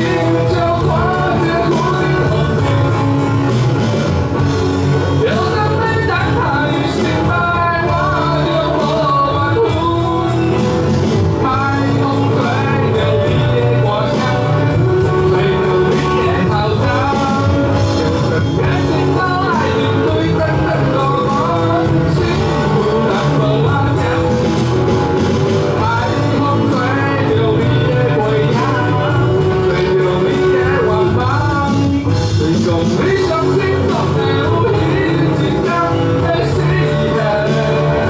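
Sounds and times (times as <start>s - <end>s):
bass guitar: 0.0s - 38.0s
electric guitars: 0.0s - 38.0s
electronic drum kit: 0.0s - 38.0s
man singing: 0.0s - 38.0s.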